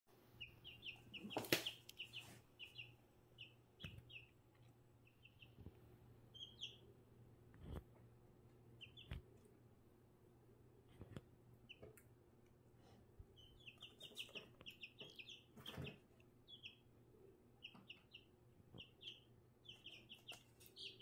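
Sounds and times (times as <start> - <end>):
baby chick peeping: 0.2 - 9.7, 10.6 - 21.0.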